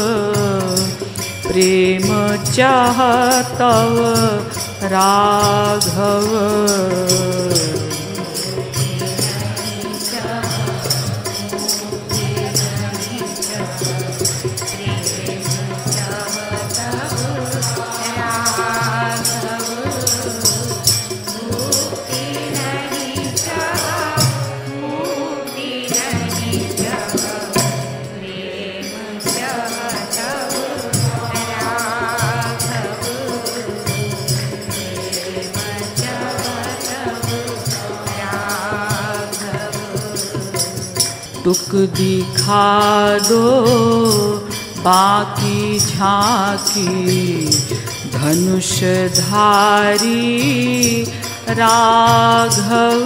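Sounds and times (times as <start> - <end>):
jingling hand percussion: 0.0 - 53.0.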